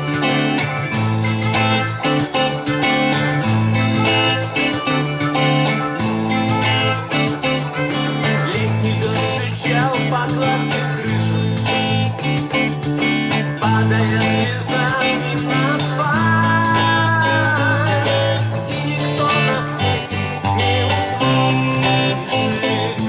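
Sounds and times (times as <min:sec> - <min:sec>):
guitar chords strummed: 0:00.0 - 0:23.0
wavering melody line: 0:00.0 - 0:23.0.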